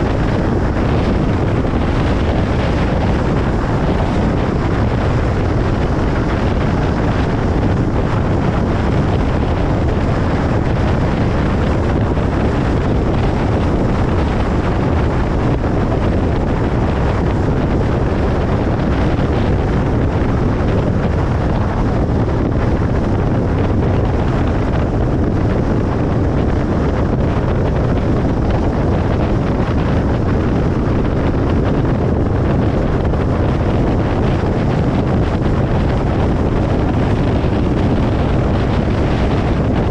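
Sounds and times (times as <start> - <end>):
car road and tyre noise: 0.0 - 39.9.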